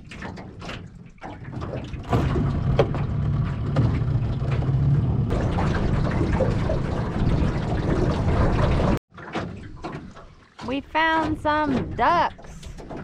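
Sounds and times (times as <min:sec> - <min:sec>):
water rushing along hull: 0:00.0 - 0:13.0
outboard motor running: 0:01.4 - 0:13.0.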